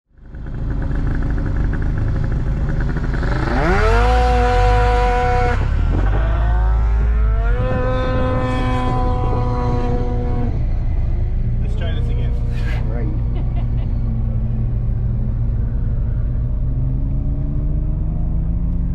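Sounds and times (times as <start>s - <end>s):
car engine revving: 0.3s - 18.9s.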